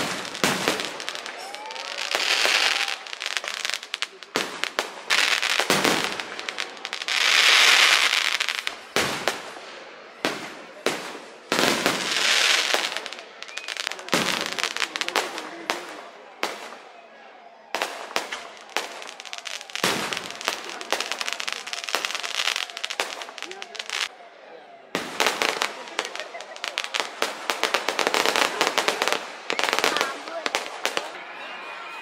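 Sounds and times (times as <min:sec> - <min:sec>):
firework crackling: 0:00.0 - 0:17.0, 0:17.7 - 0:24.2, 0:25.0 - 0:31.2.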